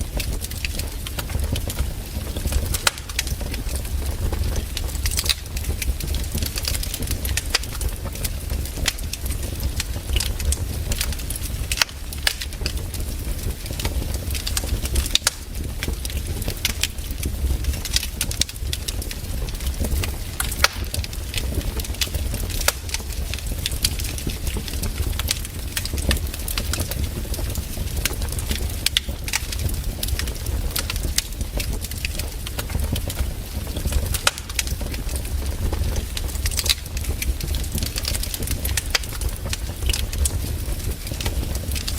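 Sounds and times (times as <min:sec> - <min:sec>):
fireplace fire crackling and popping: 0:00.0 - 0:41.9.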